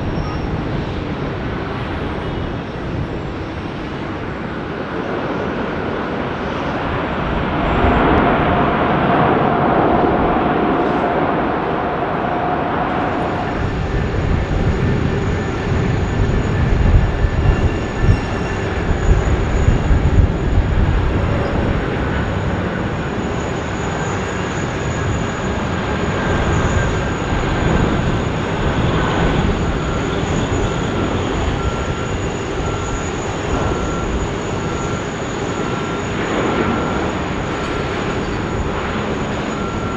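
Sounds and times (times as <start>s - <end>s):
jet engine whine: 0.0s - 39.9s
jet engines roaring: 0.0s - 39.9s.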